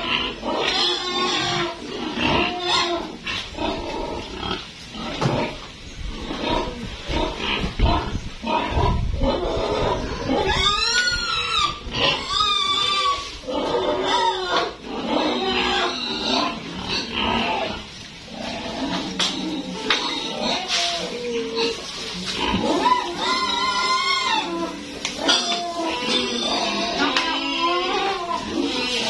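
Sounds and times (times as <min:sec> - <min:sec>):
pigs grunting and squealing: 0:00.0 - 0:29.0.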